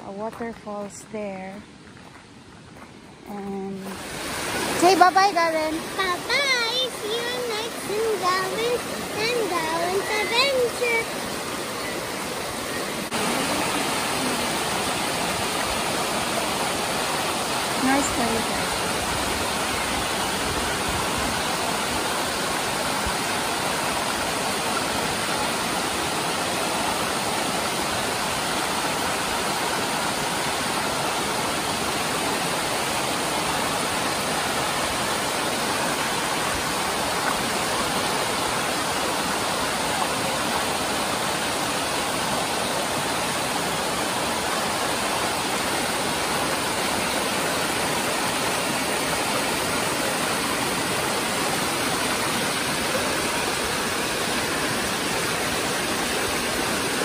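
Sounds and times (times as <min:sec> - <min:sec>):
water rushing over rocks: 0:03.5 - 0:57.0.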